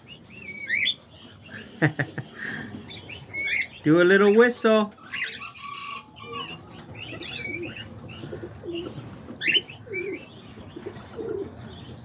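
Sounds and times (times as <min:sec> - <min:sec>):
low cooing calls: 0:00.4 - 0:03.8, 0:05.0 - 0:12.0.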